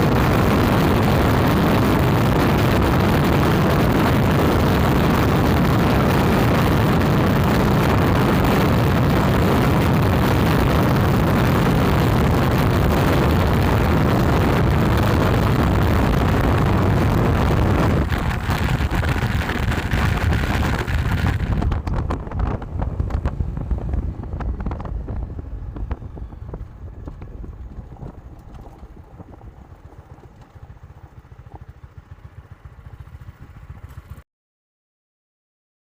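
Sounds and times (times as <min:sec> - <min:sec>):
strong wind blasting microphone: 0:00.0 - 0:34.2.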